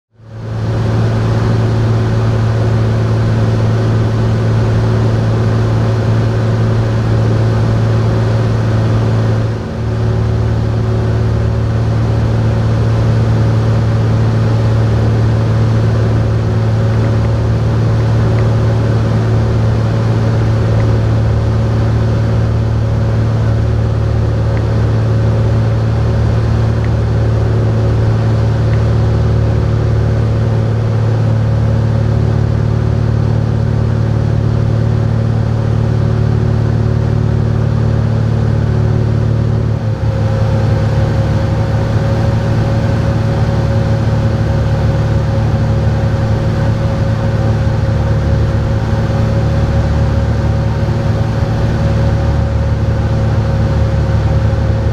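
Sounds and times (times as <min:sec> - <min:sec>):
propeller plane engine drone: 0:00.1 - 0:54.9.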